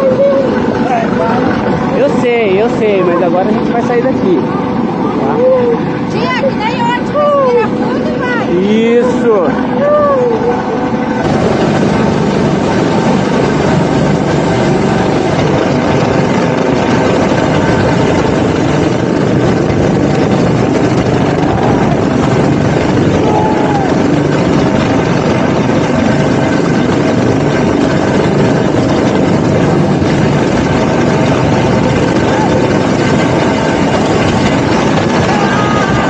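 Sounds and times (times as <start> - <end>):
helicopter hovering overhead: 0.0 - 36.0.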